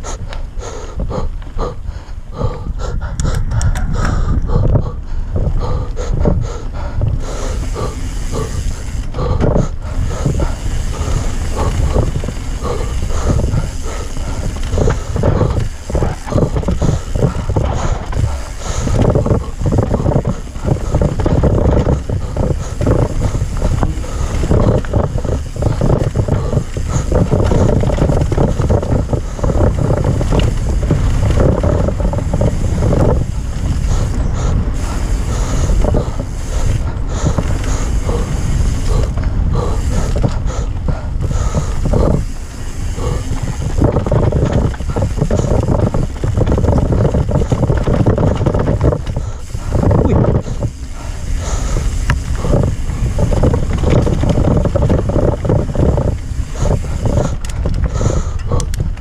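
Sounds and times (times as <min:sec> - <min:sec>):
bike rattling over bumps: 0:00.0 - 0:59.0
wind buffeting microphone: 0:00.0 - 0:59.0.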